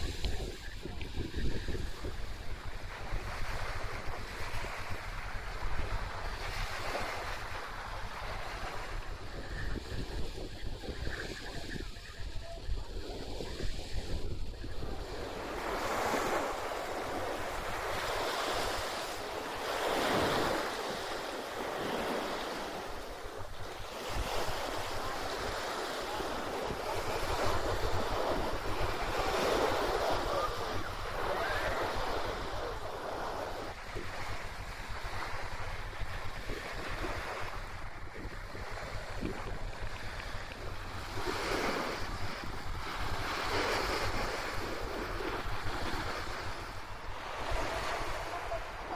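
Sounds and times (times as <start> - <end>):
sea waves washing onto beach: 0.0 - 48.9
wind rumbling on microphone: 0.0 - 48.9.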